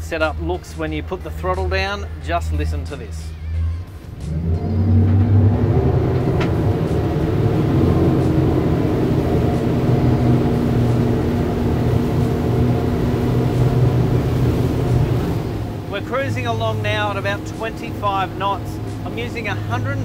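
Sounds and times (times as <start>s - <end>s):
outboard engines droning: 0.0s - 20.0s.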